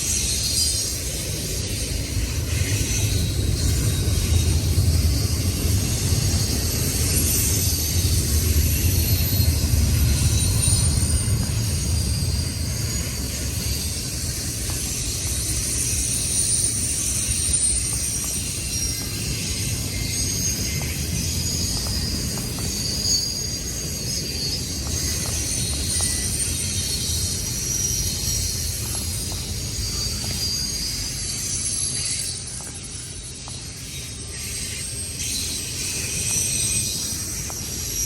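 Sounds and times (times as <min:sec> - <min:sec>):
freight train rumbling past: 0:00.0 - 0:38.0
wheels hissing on track: 0:00.0 - 0:38.0.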